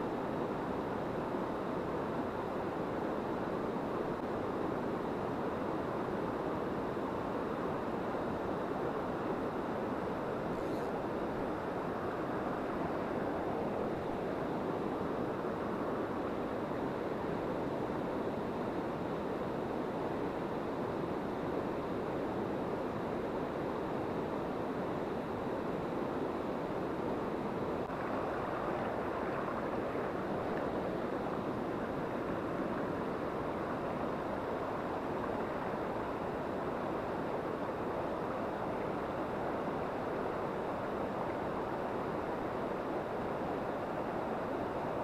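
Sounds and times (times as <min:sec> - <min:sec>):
river water rushing: 0:00.1 - 0:45.0.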